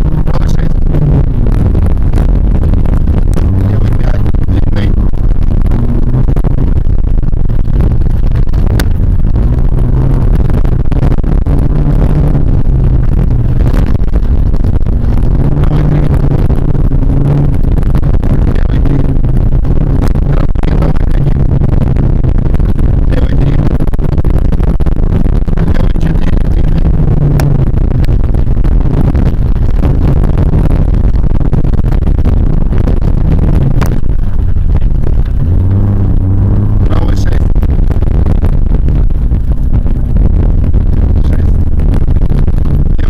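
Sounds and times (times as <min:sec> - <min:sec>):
car driving over rough dirt track: 0:00.0 - 0:43.0
car engine running hard: 0:00.0 - 0:43.0.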